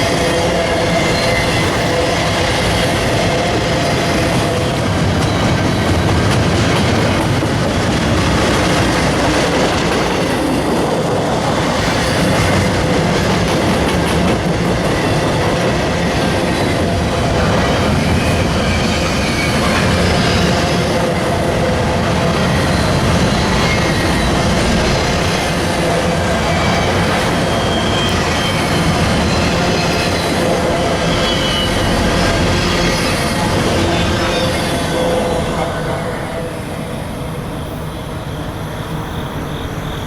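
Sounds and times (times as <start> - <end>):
train cars rumbling past: 0.0 - 40.0.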